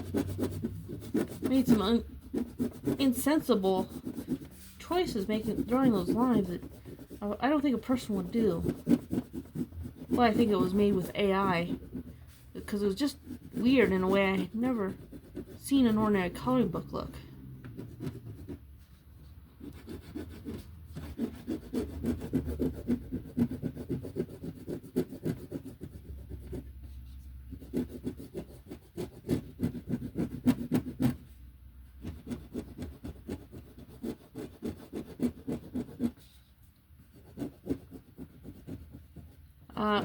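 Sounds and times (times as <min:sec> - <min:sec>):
coloring strokes scraping paper: 0:00.0 - 0:31.4, 0:32.0 - 0:40.0.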